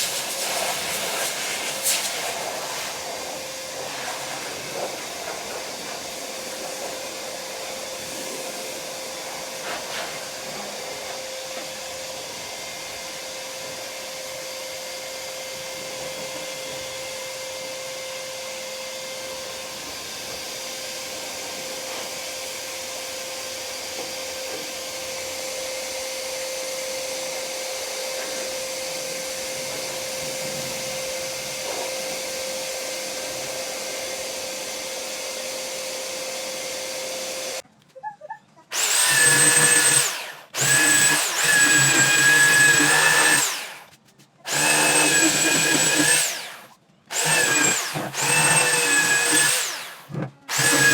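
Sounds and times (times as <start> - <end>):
vacuum cleaner blowing air: 0.0 - 37.6, 38.7 - 50.9.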